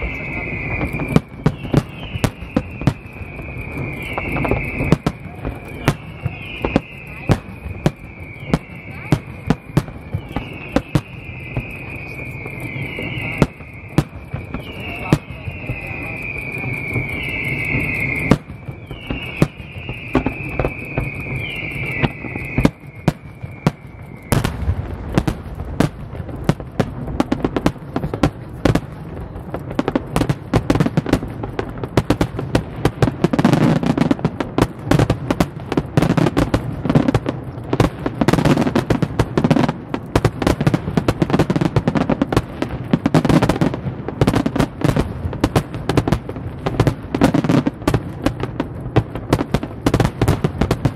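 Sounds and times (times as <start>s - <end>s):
deep firework booms: 0.0s - 50.9s
falling firework whistle: 0.0s - 50.9s
firework bangs: 0.0s - 50.9s
fireworks crackling: 0.0s - 50.9s.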